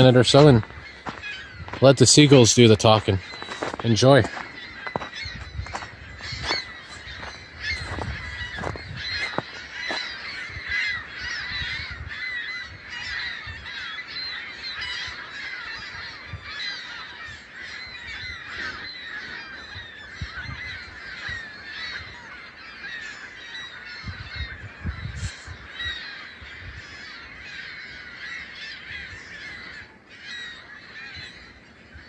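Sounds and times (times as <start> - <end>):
flock of gulls calling: 0.0 - 32.0.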